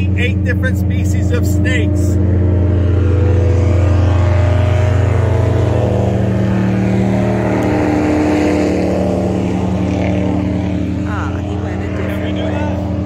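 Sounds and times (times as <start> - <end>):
airboat engine and propeller: 0.0 - 13.0.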